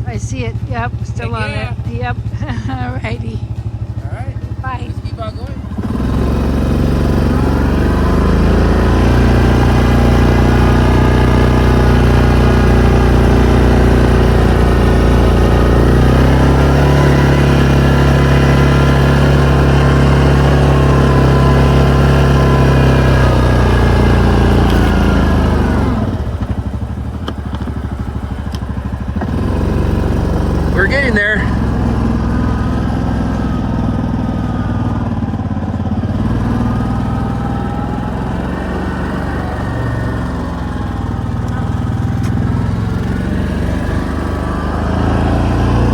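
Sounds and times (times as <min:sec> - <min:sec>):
snowplow engine running under load: 0:00.0 - 0:45.9.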